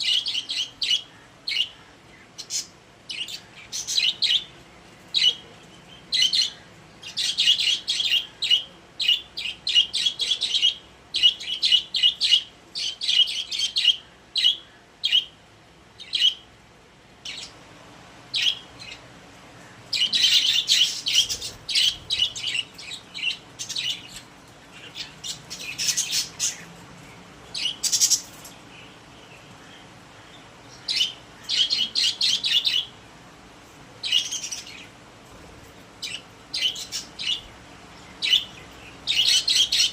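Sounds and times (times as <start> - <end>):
budgerigars chirping and warbling: 0.0 - 15.3, 19.9 - 26.8, 27.5 - 32.9, 34.0 - 34.9, 36.0 - 39.9.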